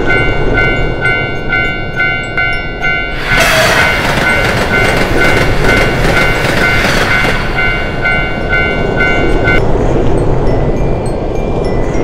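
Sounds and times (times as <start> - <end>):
train wheels rushing on rails: 0.0 - 10.5
level crossing bell clanging: 0.0 - 12.0.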